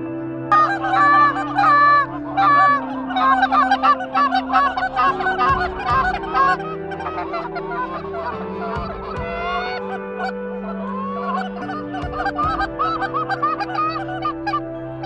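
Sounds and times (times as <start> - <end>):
geese honking: 0.5 - 14.6.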